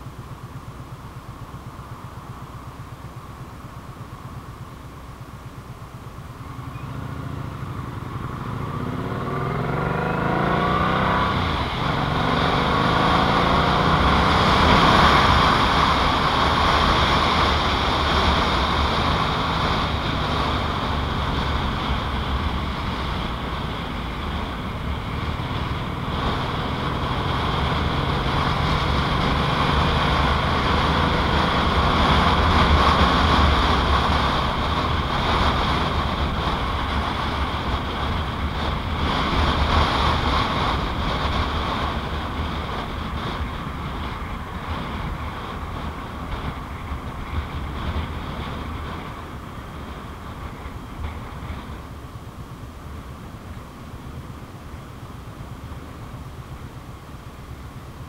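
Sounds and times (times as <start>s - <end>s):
wind and road noise: 0.0s - 58.0s
motorcycle engine pulling away: 5.6s - 52.2s.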